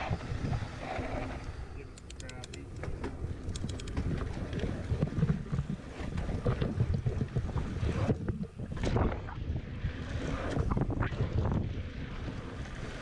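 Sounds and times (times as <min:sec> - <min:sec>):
wind buffeting microphone: 0:00.0 - 0:01.7, 0:02.5 - 0:13.0.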